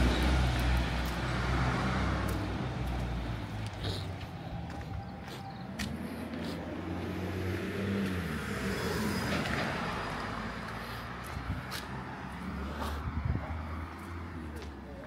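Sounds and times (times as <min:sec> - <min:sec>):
car passing by: 0:00.0 - 0:14.7.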